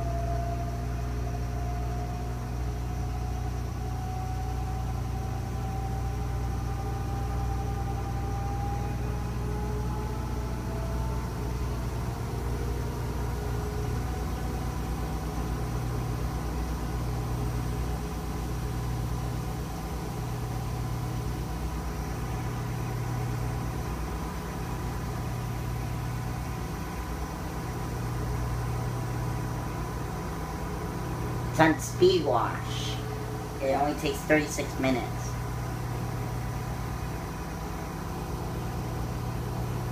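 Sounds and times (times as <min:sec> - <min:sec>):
faint whine: 0:00.0 - 0:39.9
washing machine spinning: 0:00.0 - 0:39.9.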